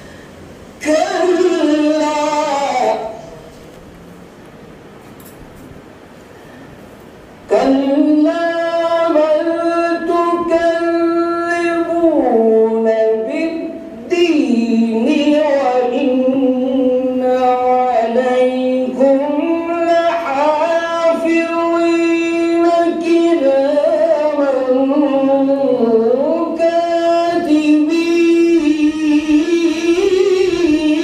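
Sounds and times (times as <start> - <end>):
man reciting melodically: 0.8 - 3.5, 7.5 - 31.0.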